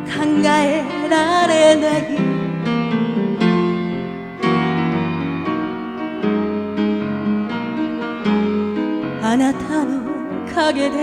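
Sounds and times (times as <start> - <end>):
piano playing chords: 0.0 - 11.0.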